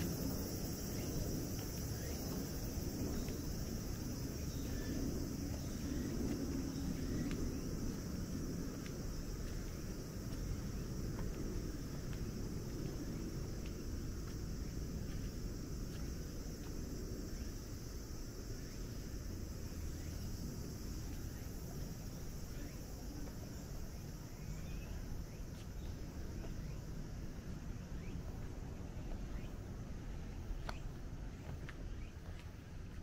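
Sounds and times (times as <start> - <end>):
high-pitched insect chorus: 0.0 - 33.0
low outdoor rumble: 0.0 - 33.0.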